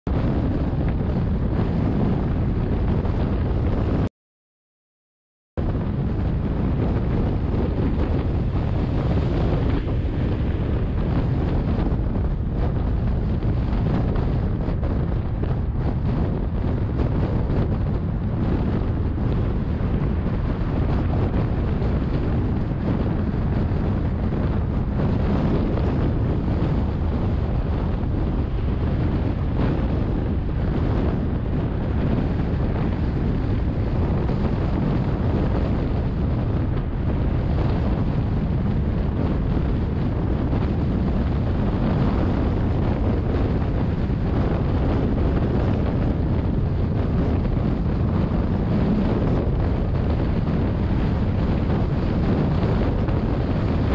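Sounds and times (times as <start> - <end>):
wind noise: 0.1 - 4.1, 5.6 - 53.9.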